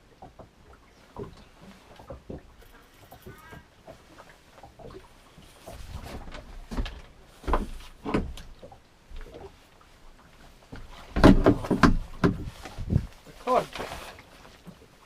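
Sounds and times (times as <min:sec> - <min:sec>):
knocks and thumps in a boat: 0:00.0 - 0:15.0.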